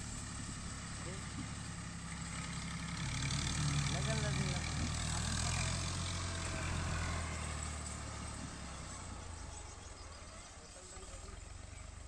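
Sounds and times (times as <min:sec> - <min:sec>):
tractor diesel engine humming: 0:00.0 - 0:12.0.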